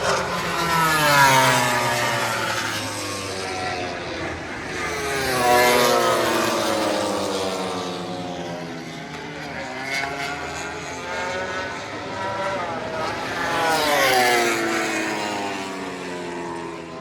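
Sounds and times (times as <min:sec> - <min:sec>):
motorcycle engine approaching: 0:00.0 - 0:17.0
racing motorcycle passing: 0:00.0 - 0:17.0.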